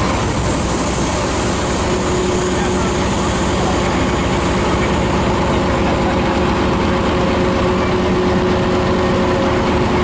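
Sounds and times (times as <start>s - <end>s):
diesel locomotive idling: 0.0s - 10.0s.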